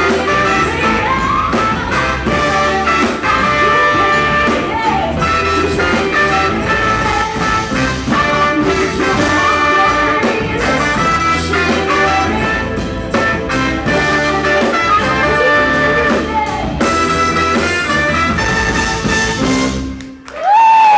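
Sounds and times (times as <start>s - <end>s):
soul band horn section playing: 0.0s - 20.2s.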